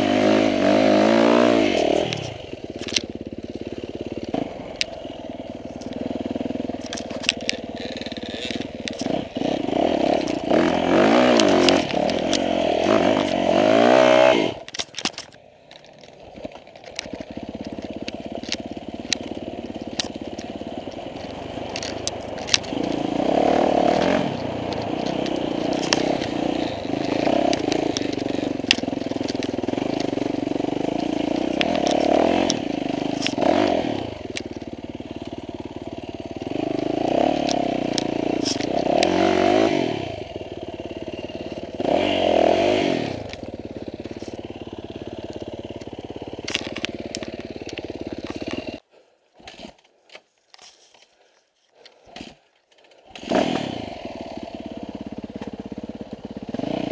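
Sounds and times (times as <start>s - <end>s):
bike riding rush: 0.0s - 56.9s
clicks and rattles over ground: 0.0s - 56.9s.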